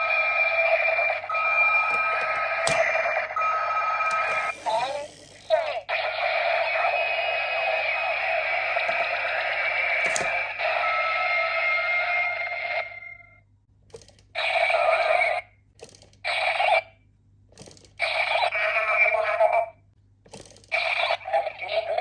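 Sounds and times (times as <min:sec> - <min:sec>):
toy electronic sound effects: 0:00.0 - 0:13.3, 0:14.4 - 0:15.4, 0:16.2 - 0:17.0, 0:18.0 - 0:19.8, 0:20.7 - 0:22.0.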